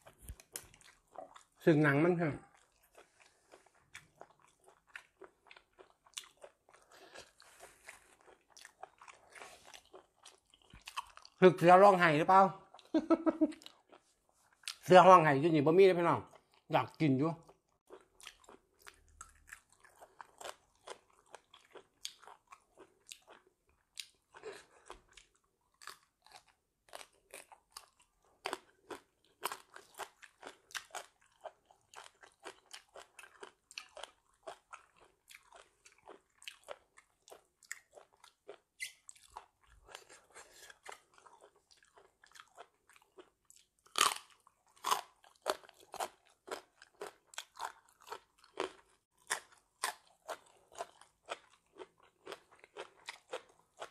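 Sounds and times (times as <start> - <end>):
person chewing crunchy food: 0.0 - 1.6, 2.3 - 12.0, 12.6 - 14.9, 17.4 - 53.9.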